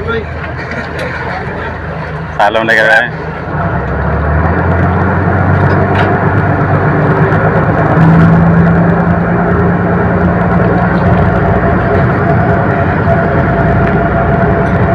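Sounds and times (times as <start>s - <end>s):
boat engine running: 0.0s - 14.9s
higher hum: 0.0s - 14.9s.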